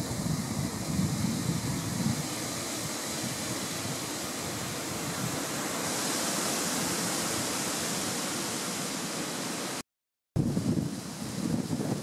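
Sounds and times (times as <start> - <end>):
steady rushing noise: 0.0 - 9.8, 10.4 - 12.0.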